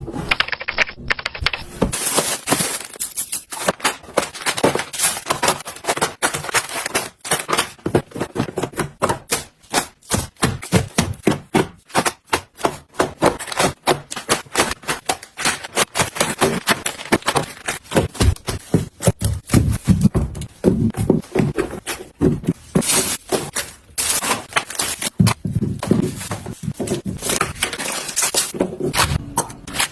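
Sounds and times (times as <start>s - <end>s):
food containers clicking and clacking: 0.6s - 29.9s.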